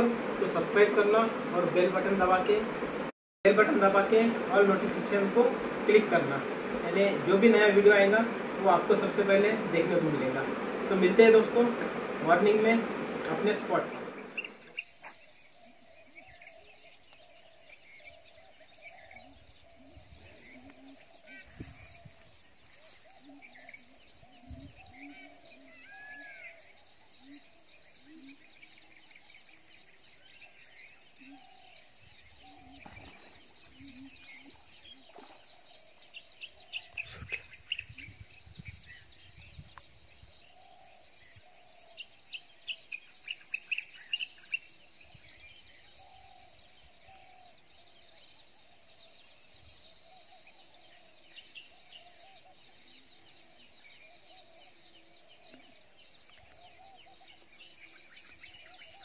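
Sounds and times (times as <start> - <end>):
birds chirping and calling: 0.0 - 59.0.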